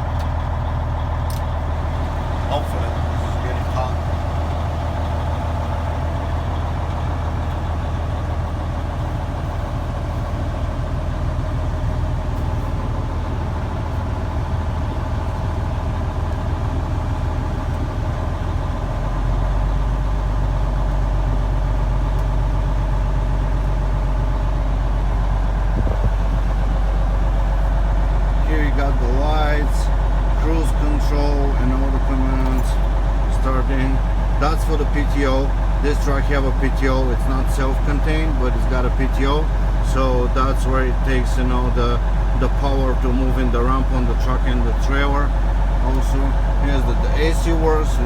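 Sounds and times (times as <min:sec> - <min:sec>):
diesel truck idling: 0:00.0 - 0:48.0.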